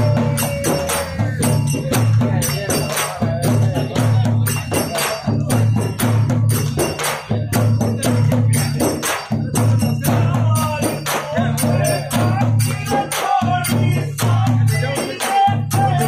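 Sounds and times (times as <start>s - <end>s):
frame drums beaten by hand: 0.0s - 16.0s
voices singing: 0.0s - 16.0s.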